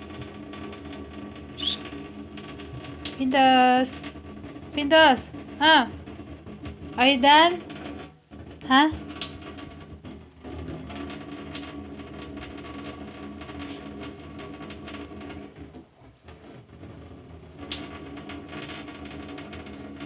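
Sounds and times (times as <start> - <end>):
water running from a tap: 0.0 - 20.0.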